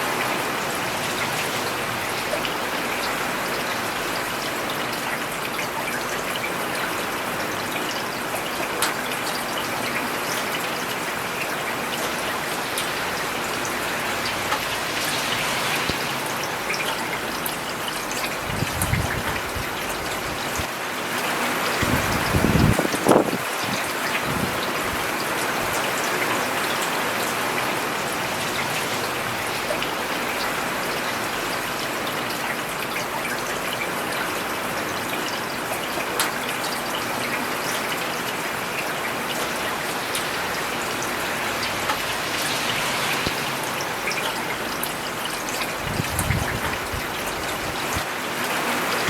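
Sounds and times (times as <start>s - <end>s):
rain on paved road: 0.0s - 49.0s.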